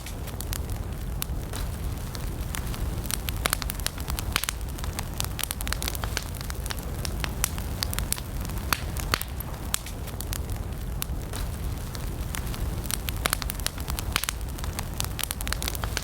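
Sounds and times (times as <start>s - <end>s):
campfire crackles and pops: 0.0s - 16.0s
low rumble of flames: 0.0s - 16.0s.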